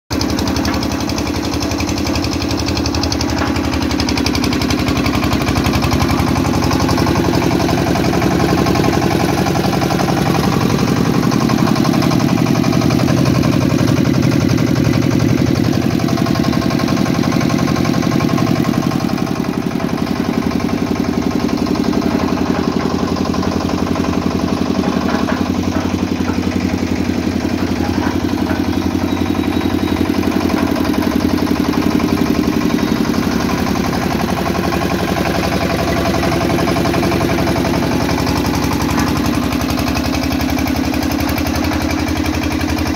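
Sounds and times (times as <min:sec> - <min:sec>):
diesel engine running steadily: 0:00.1 - 0:42.9.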